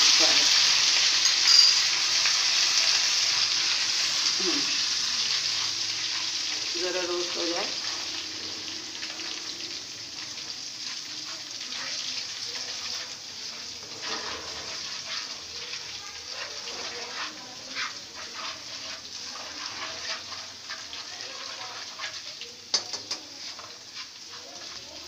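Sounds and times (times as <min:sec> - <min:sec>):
spices sizzling in a frying pan: 0:00.0 - 0:25.0
spoon scraping a pan: 0:00.1 - 0:25.0.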